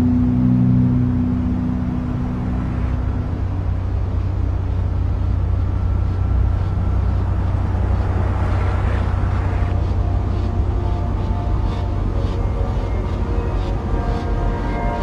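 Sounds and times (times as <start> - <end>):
low mechanical rumble: 0.0 - 15.0
noisy hiss: 0.0 - 15.0.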